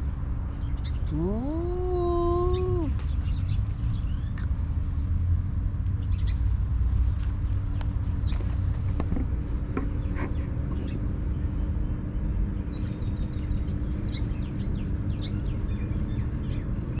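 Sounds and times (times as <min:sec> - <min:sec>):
constant hum: 0:00.0 - 0:17.0
low traffic rumble: 0:00.0 - 0:17.0
small birds chirping: 0:00.5 - 0:05.1, 0:05.9 - 0:17.0.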